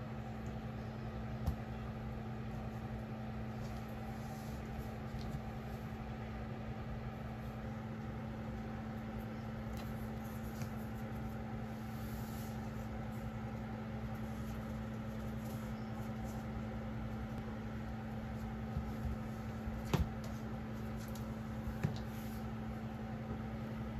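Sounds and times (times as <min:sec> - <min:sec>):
low machine hum: 0:00.0 - 0:23.9.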